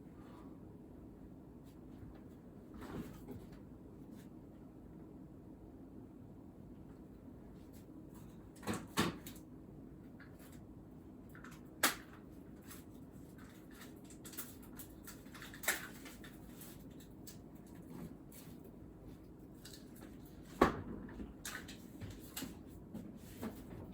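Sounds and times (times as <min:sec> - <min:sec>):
low steady room hum: 0:00.0 - 0:23.9.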